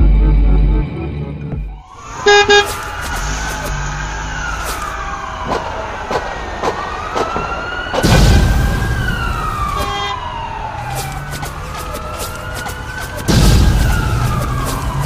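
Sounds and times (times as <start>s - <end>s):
siren wailing: 1.6s - 15.0s.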